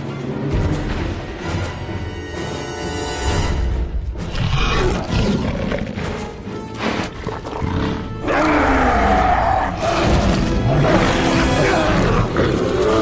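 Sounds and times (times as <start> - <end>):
film score music: 0.0 - 13.0.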